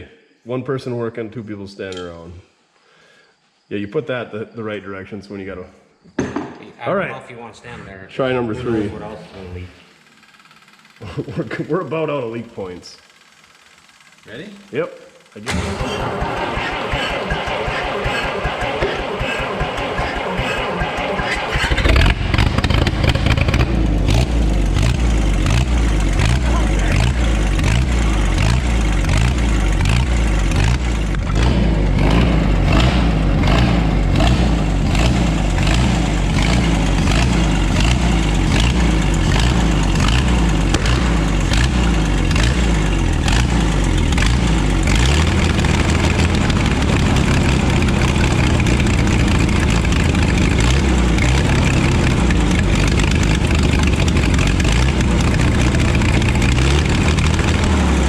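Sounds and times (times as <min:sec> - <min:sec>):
tractor engine surging: 0:08.4 - 0:58.0.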